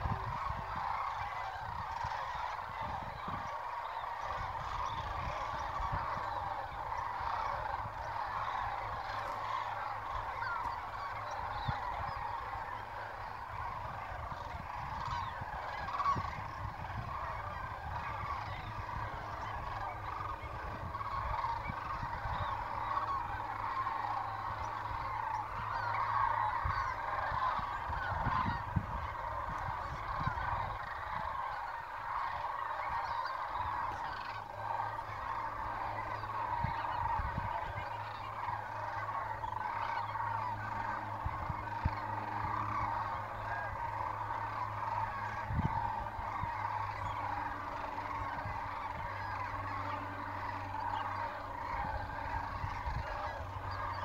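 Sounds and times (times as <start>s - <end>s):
flock of geese honking: 0.0s - 54.0s.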